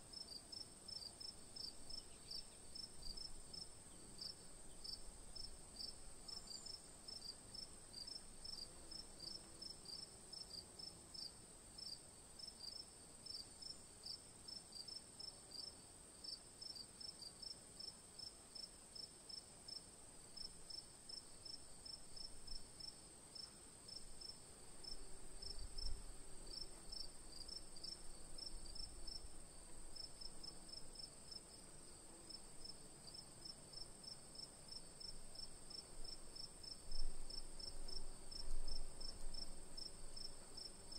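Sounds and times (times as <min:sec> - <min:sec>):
insect chirping: 0:00.1 - 0:19.8, 0:20.4 - 0:40.9.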